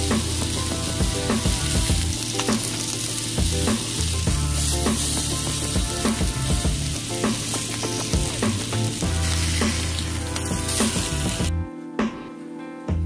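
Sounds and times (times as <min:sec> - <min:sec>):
food sizzling in a grill pan: 0:00.0 - 0:11.5.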